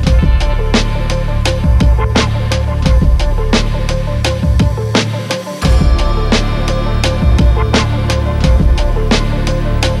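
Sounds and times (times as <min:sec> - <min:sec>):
music with beat and deep bass: 0:00.0 - 0:10.0.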